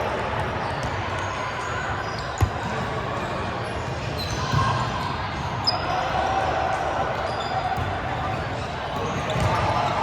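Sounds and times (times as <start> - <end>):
echoing sports hall din: 0.0 - 10.0.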